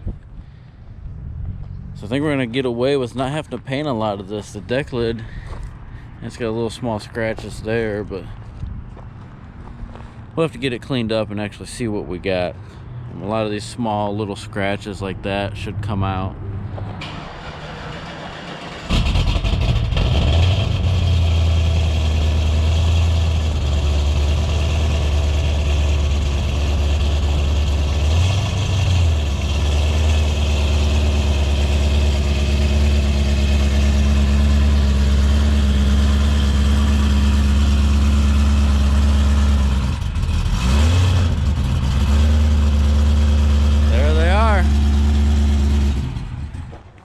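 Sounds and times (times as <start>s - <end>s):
vehicle engine droning: 0.0s - 47.0s.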